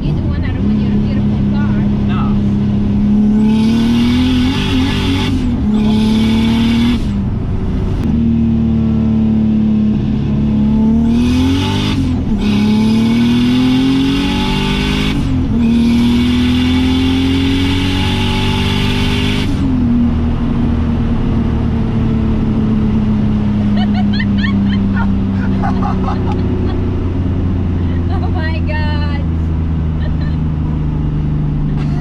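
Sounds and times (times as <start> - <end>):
car engine pulling hard: 0.0 - 32.0.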